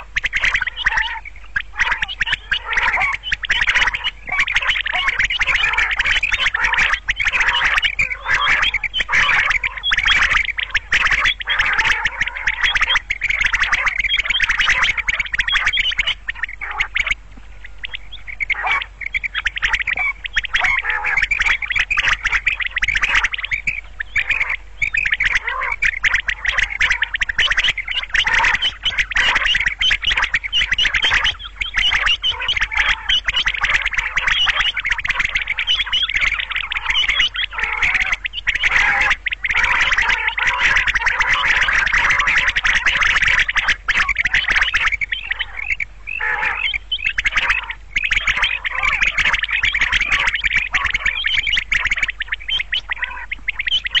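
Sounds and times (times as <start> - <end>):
quail calling: 0.0 - 54.0.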